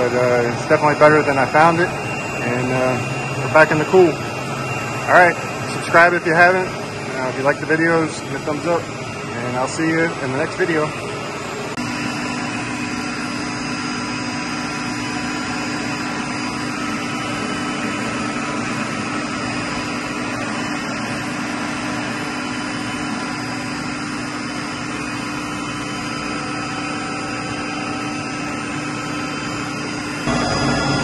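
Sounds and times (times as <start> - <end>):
chiller machine hum and hiss: 0.0 - 31.0
high whining tones: 0.0 - 31.0.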